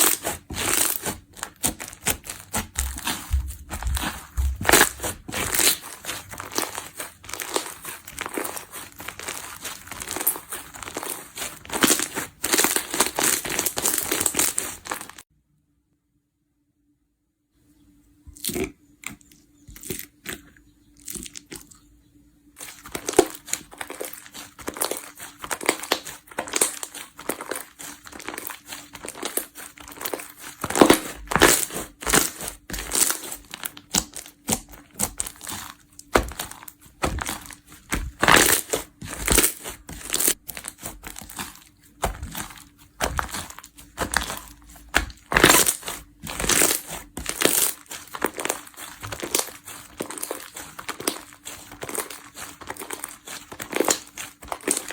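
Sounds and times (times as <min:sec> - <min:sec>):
slime crackling and popping: 0:00.0 - 0:15.2, 0:22.6 - 0:54.9.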